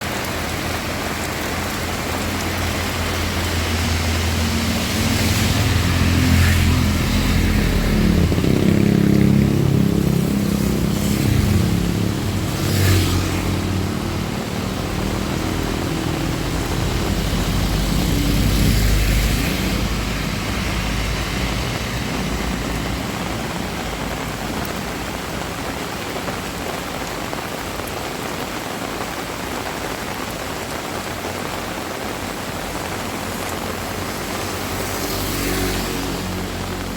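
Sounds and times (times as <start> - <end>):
heavy rain falling: 0.0 - 36.9
vehicles passing on road: 0.0 - 36.9.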